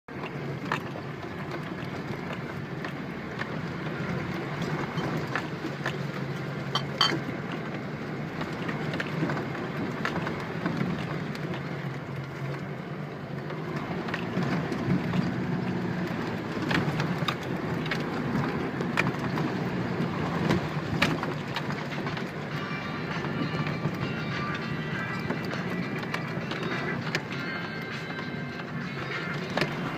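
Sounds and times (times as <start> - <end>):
pickup engine driving: 0.1 - 29.9.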